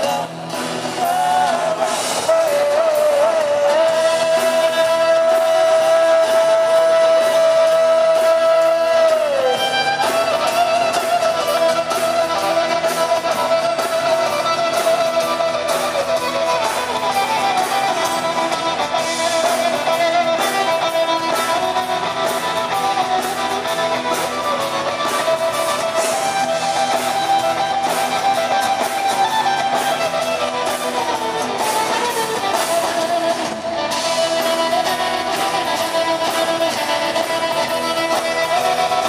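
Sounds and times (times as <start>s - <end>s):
live rock band playing: 0.0s - 39.0s
melodic electric guitar line: 0.0s - 39.0s.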